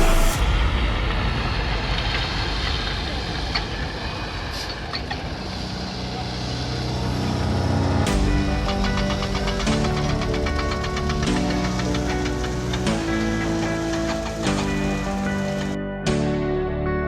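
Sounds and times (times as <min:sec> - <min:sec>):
heavy vehicle engine running: 0:00.0 - 0:15.8
road noise: 0:00.0 - 0:15.8.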